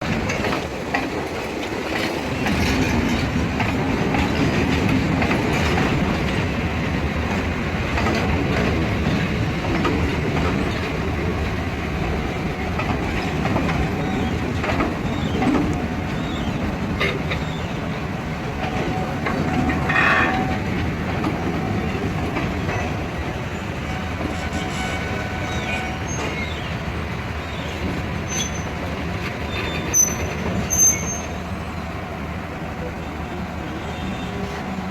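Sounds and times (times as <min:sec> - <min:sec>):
wheels clattering over rail joints: 0:00.0 - 0:31.6
freight train rolling past: 0:00.0 - 0:34.9.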